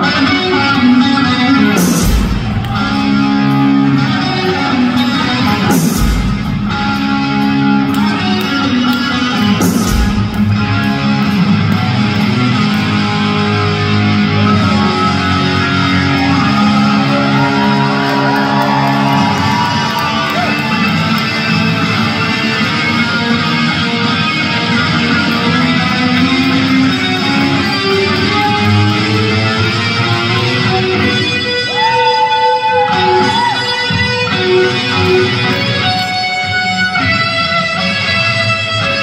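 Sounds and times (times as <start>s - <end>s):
live hard rock band: 0.0s - 39.0s.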